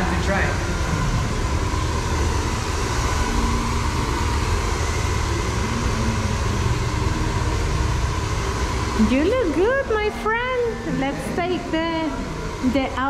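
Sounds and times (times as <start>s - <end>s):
hair dryer blowing: 0.0s - 13.0s
thin steady whine: 0.0s - 13.0s.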